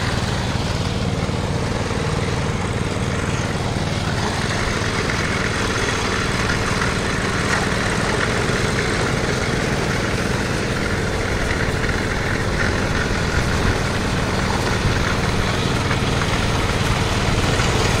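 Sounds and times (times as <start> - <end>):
power trowel engine running: 0.0 - 18.0.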